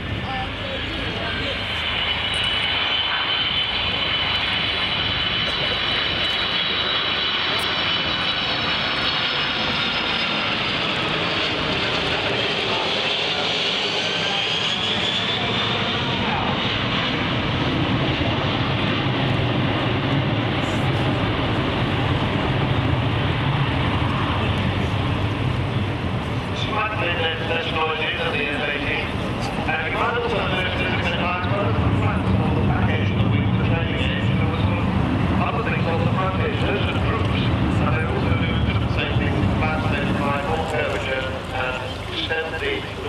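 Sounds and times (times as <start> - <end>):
deep rumble: 0.0 - 41.9
airliner jet engines: 0.0 - 43.0.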